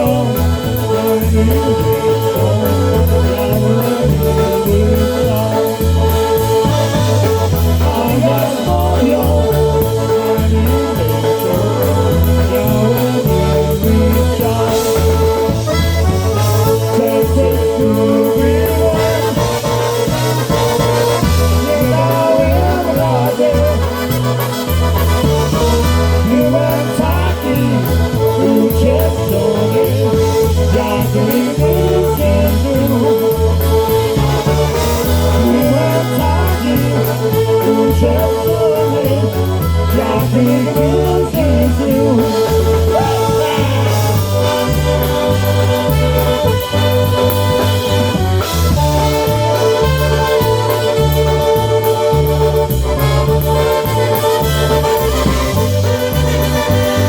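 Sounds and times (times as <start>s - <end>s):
polka band playing: 0.0s - 57.0s.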